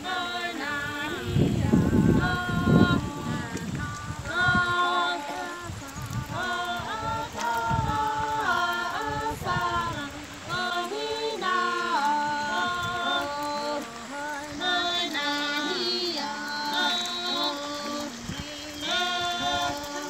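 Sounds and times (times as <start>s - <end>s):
women singing unaccompanied: 0.0s - 20.0s.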